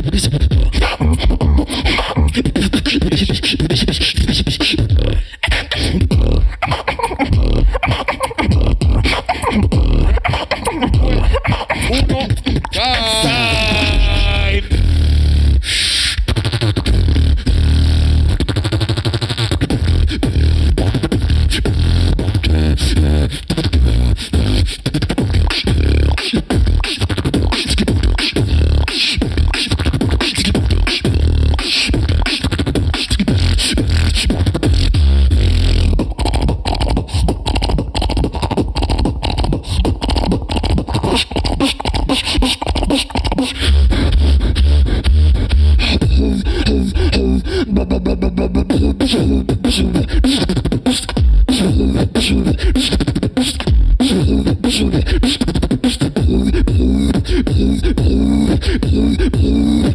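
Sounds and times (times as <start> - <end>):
person beatboxing: 0.0 - 59.9.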